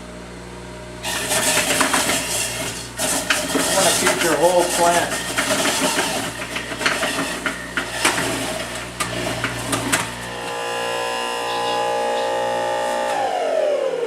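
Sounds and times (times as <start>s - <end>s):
electric juicer motor whining: 1.0s - 14.0s.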